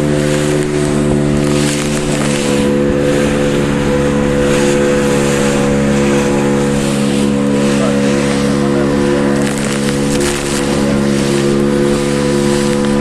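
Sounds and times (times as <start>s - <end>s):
motorboat engine running: 0.0s - 13.0s
rushing water and wind: 0.0s - 13.0s.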